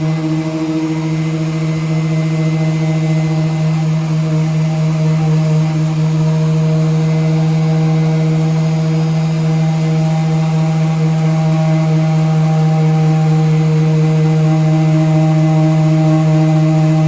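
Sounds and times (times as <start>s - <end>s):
power sander running: 0.0s - 17.0s.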